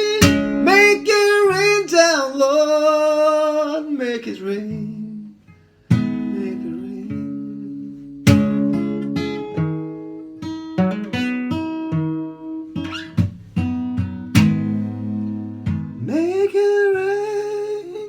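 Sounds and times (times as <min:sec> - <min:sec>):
acoustic guitar strummed and picked: 0:00.0 - 0:18.0.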